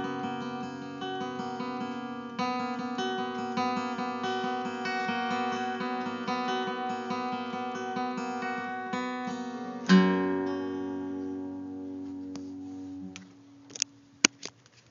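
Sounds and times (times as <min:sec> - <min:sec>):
acoustic guitar music: 0:00.0 - 0:14.5.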